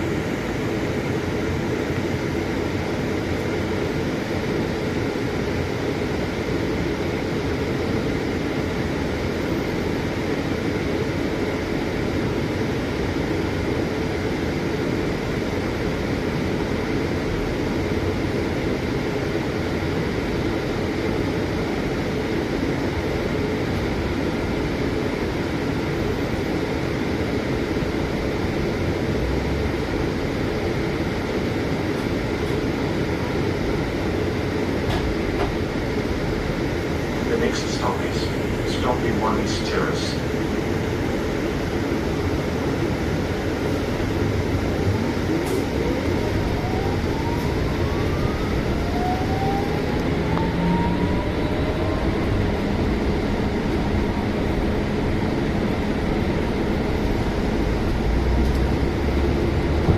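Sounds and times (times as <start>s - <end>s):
bus engine rumble inside cabin: 0.0s - 59.9s.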